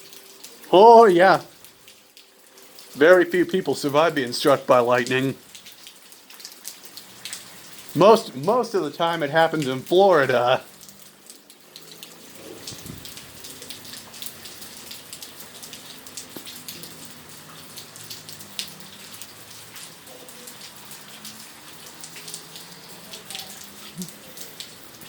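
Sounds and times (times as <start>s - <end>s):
rain hissing: 0.0s - 5.9s, 6.8s - 25.0s.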